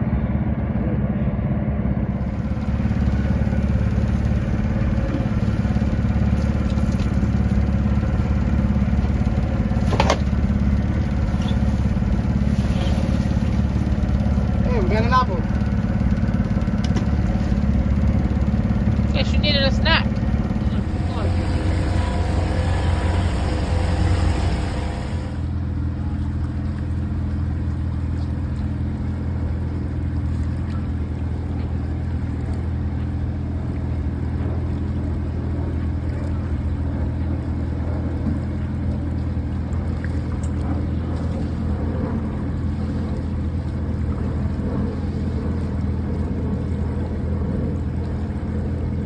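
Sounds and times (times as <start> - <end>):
boat engine humming: 0.0 - 49.0.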